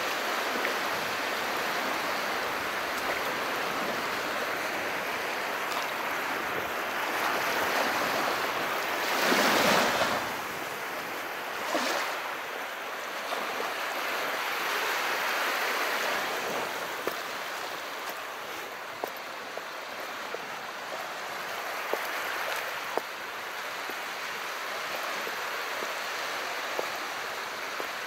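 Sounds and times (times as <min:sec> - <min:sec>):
sea waves washing in: 0:00.0 - 0:28.0.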